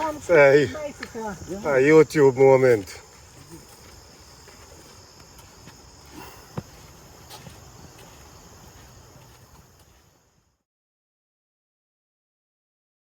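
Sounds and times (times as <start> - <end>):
insects chirring: 0.0 - 10.6.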